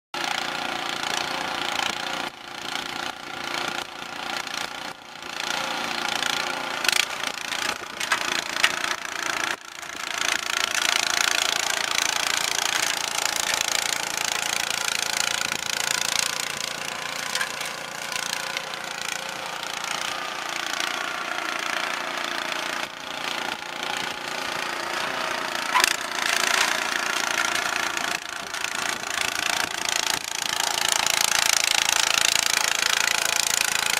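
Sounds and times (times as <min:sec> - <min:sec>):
snowblower engine running: 0:00.2 - 0:33.9.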